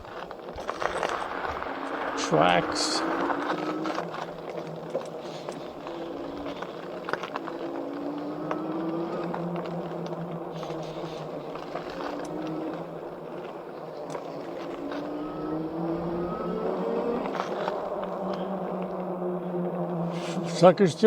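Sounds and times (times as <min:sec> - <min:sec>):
electric motor whining: 0:00.0 - 0:20.8
tyres rolling on dirt and rocks: 0:00.0 - 0:21.0.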